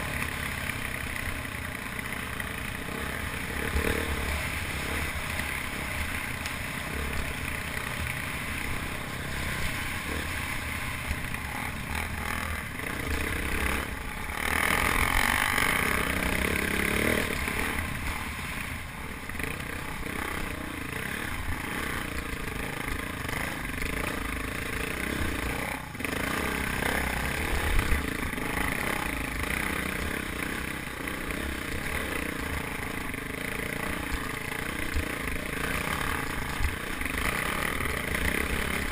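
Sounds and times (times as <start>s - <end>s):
motorcycle engine under load: 0.0s - 38.9s.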